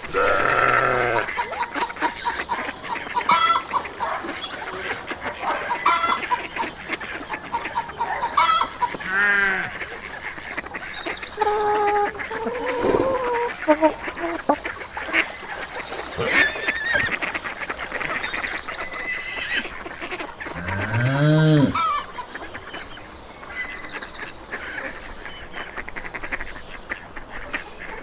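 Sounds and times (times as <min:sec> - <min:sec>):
poultry calling: 0:00.0 - 0:22.6.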